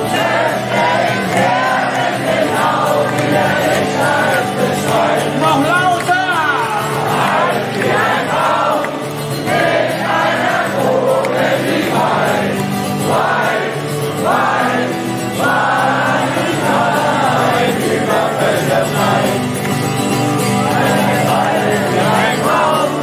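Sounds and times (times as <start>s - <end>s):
crowd singing along: 0.0s - 23.0s.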